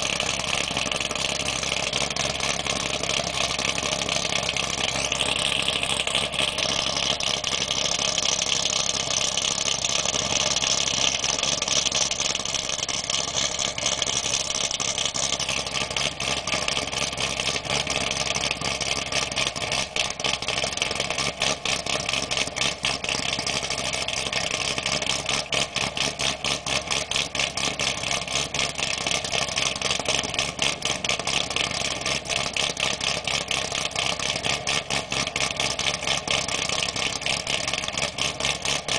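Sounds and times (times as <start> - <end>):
car engine idling unevenly: 0.0 - 38.9.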